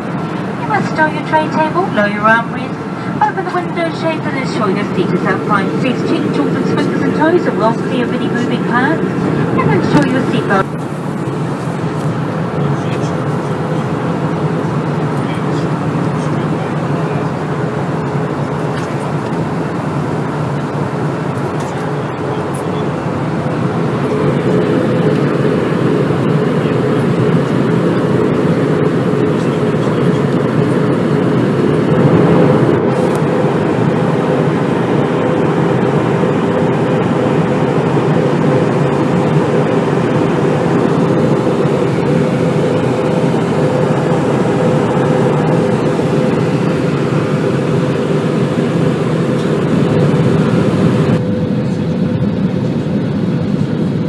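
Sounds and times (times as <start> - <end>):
jet engine cabin roar: 0.0 - 54.0
steady hum: 0.0 - 54.0.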